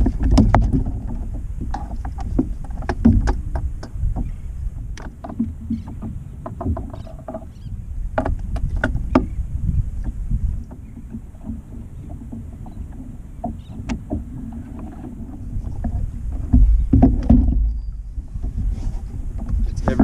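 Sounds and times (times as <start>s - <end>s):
knocks and clicks against kayak: 0.0s - 20.0s
water and wind rumble: 0.0s - 20.0s.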